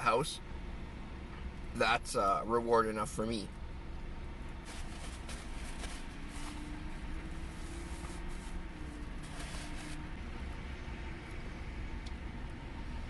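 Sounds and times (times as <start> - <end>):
car cabin low rumble: 0.0 - 13.0.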